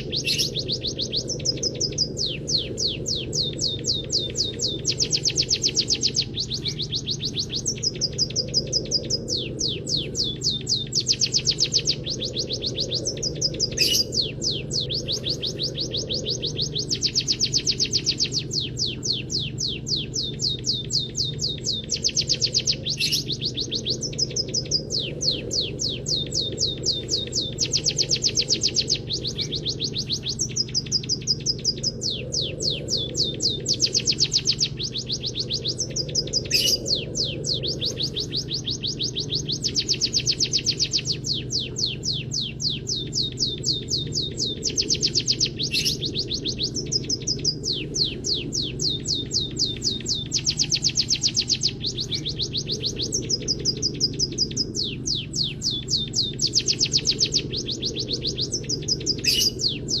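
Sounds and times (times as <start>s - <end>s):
bird song trills: 0.0s - 60.0s
steady low hum: 0.0s - 60.0s.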